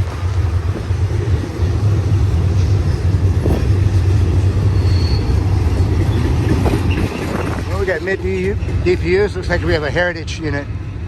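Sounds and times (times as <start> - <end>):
diesel locomotive rumble: 0.0 - 11.0
freight train rolling past: 0.0 - 11.0.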